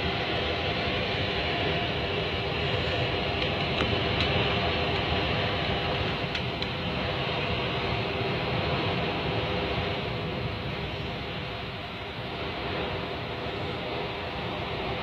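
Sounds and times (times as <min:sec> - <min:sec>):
storm wind rushing: 0:00.0 - 0:15.0.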